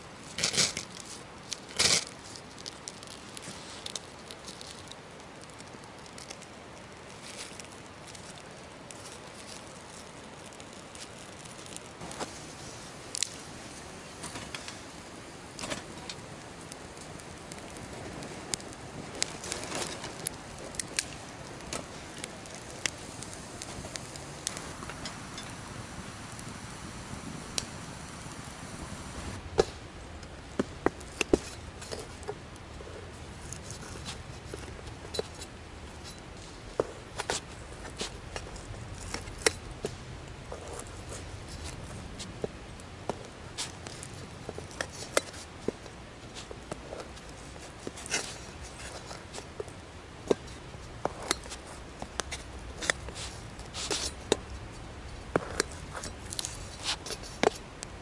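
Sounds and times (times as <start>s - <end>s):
steady hiss: 0.0s - 58.0s
twigs crackling in a stove: 0.0s - 58.0s.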